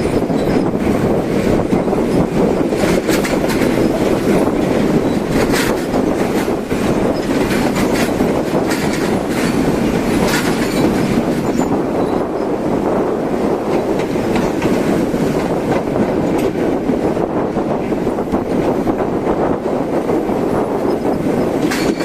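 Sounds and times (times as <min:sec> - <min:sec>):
train wheels rumbling on rails: 0:00.0 - 0:22.0
wheels clacking over rail joints: 0:00.0 - 0:22.0.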